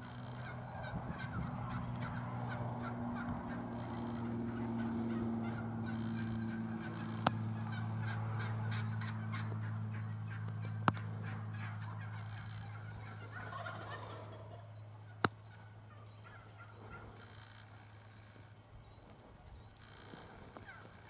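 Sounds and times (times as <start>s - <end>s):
turkeys gobbling: 0.0s - 21.0s.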